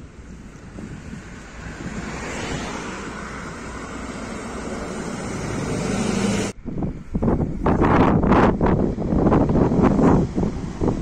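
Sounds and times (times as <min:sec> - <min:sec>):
bus passing close by: 0:00.0 - 0:11.0
wind buffeting microphone: 0:00.0 - 0:11.0.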